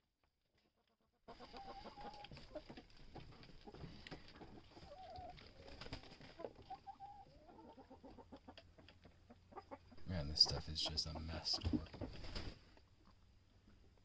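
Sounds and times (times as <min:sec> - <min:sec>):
chickens clucking: 0:01.3 - 0:13.2.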